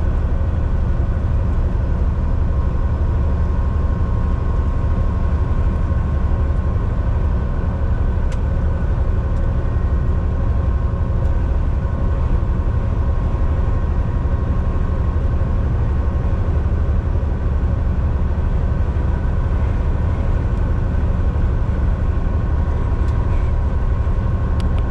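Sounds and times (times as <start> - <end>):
faint constant whine: 0.0 - 24.9
truck engine and road rumble: 0.0 - 24.9.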